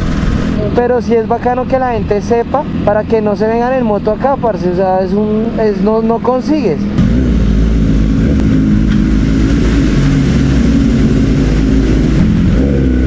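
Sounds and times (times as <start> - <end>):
motorcycle engines at low revs: 0.0 - 13.0.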